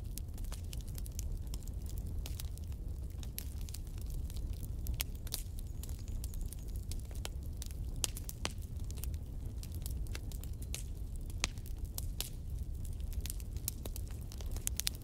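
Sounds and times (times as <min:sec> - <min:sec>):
crackles and clicks: 0:00.0 - 0:15.0.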